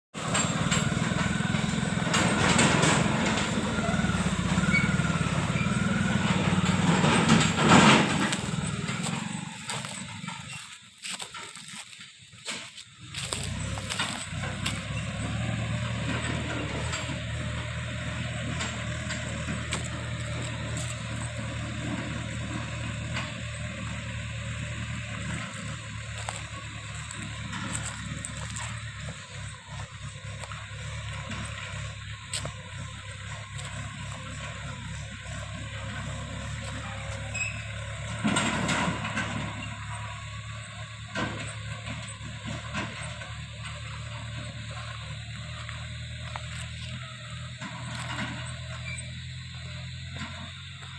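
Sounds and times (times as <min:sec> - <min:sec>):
vehicle engine running: 0:00.0 - 0:50.9
loud clattering over bumps: 0:00.1 - 0:46.5.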